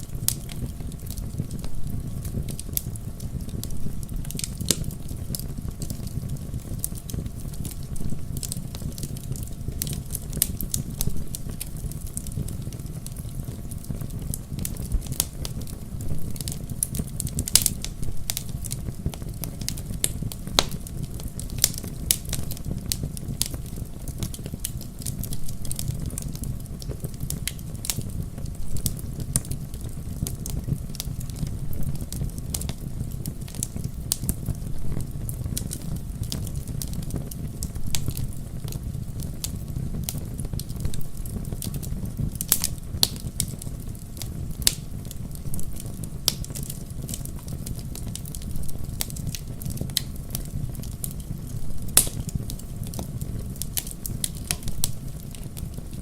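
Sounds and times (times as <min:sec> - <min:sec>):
fire crackling and popping: 0:00.0 - 0:56.0
low rumble of burning: 0:00.0 - 0:56.0.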